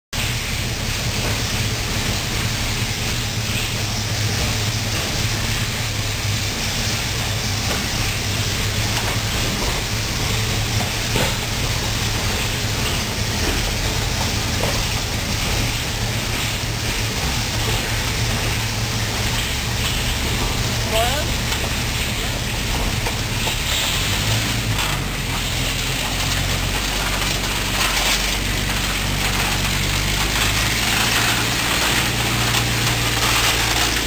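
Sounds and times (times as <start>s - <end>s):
tank engine running at low revs: 0.2s - 34.0s
tank tracks creeping: 0.2s - 34.0s.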